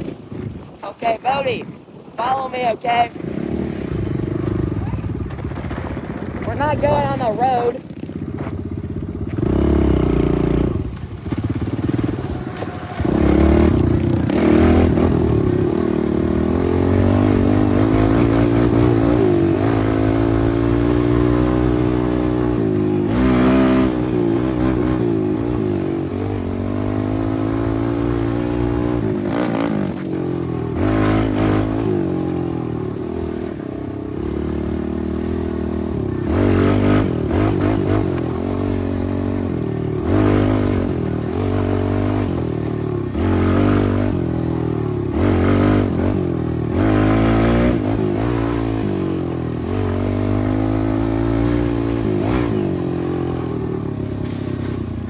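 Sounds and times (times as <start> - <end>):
motorbike engine revving: 2.8 - 55.0.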